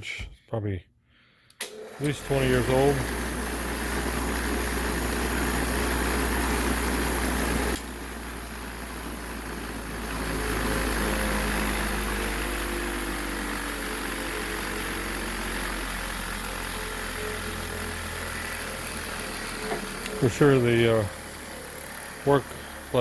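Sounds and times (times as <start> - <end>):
bench grinder motor humming: 1.7 - 23.0.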